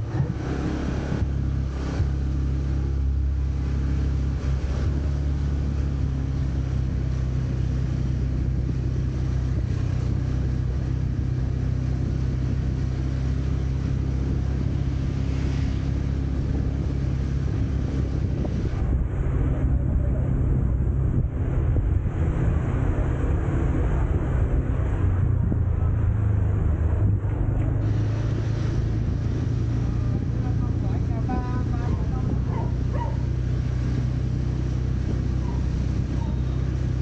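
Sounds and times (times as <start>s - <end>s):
road noise: 0.0s - 37.0s.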